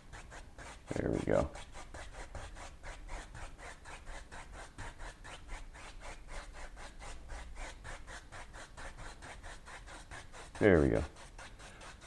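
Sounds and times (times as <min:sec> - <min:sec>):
paintbrush scrubbing on canvas: 0:00.0 - 0:12.0.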